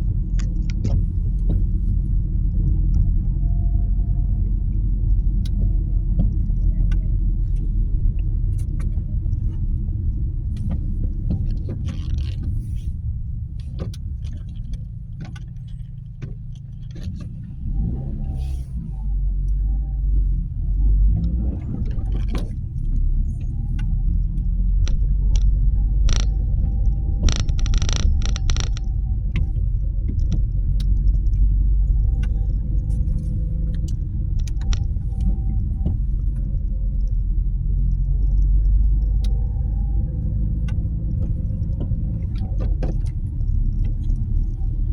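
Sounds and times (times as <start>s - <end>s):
car engine humming: 0.0s - 44.9s
sharp clicks and ticks: 4.7s - 12.6s, 13.3s - 18.0s, 21.1s - 44.9s.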